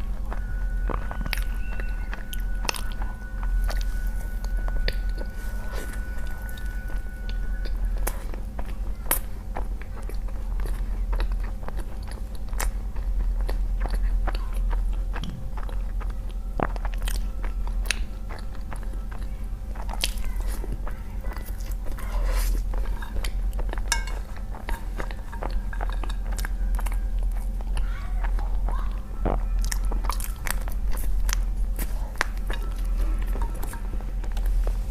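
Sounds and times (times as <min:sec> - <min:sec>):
chewing noodles: 0:00.0 - 0:34.9
steady low hum: 0:00.0 - 0:34.9.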